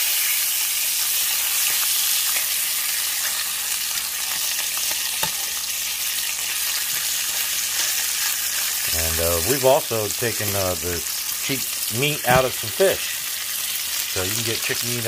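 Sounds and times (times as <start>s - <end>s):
bacon sizzling in a frying pan: 0.0s - 15.0s.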